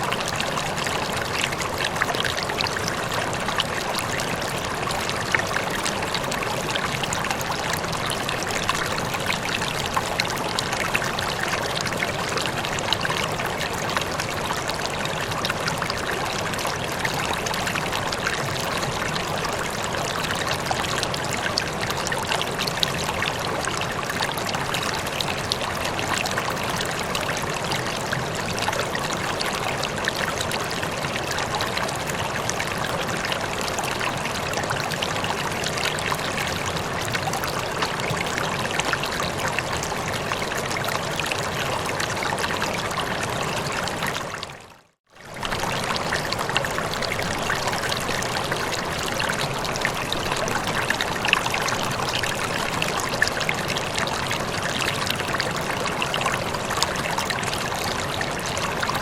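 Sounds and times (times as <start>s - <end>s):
stream trickling and splashing: 0.0s - 59.0s.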